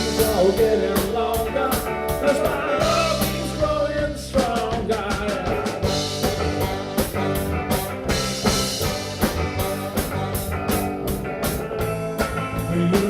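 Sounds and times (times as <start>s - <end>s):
drum kit beat: 0.0s - 13.0s
live rock band playing: 0.0s - 13.0s.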